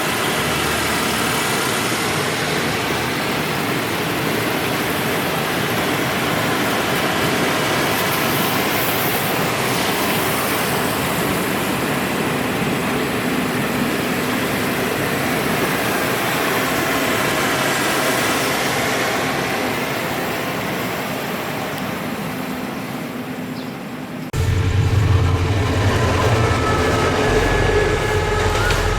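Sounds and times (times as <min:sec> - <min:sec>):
train running on rails: 0:00.0 - 0:28.9.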